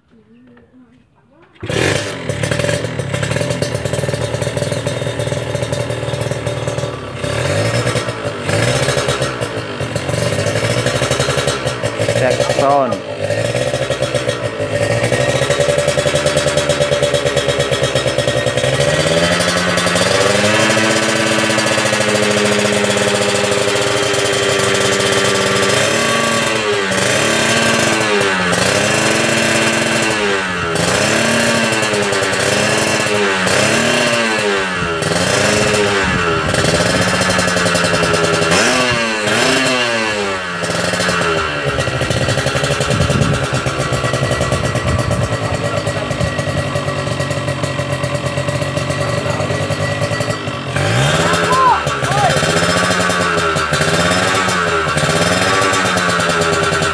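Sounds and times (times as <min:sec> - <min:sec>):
two-stroke motorcycle engine revving: 0:01.5 - 0:56.9.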